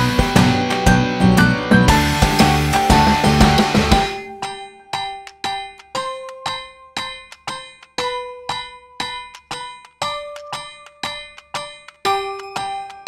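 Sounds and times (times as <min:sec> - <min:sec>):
background music with ringing strikes: 0:00.0 - 0:13.0.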